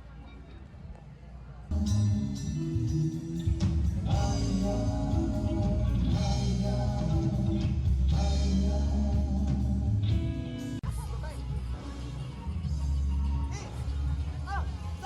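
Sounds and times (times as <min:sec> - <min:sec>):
rock song with singing: 0:01.7 - 0:15.0.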